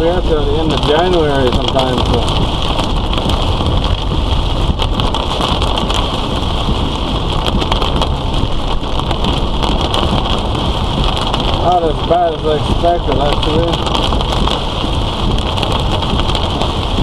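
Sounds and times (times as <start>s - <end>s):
heavy rain on a vehicle: 0.0s - 17.0s
road and tyre noise: 0.0s - 17.0s.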